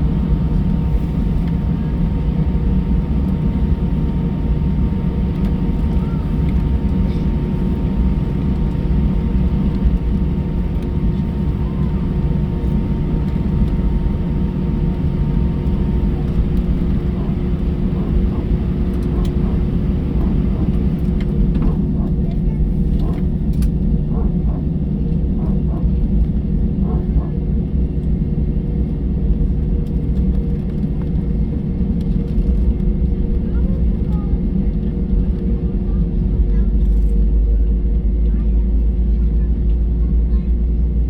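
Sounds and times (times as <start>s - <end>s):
aircraft cabin engine rumble: 0.0s - 41.0s
constant hum: 0.0s - 41.0s.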